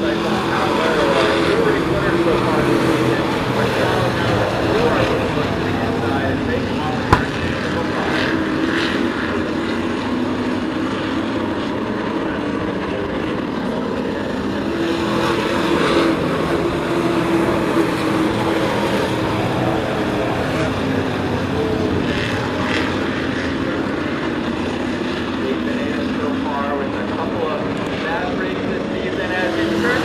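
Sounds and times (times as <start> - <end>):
race truck engines: 0.0 - 30.0.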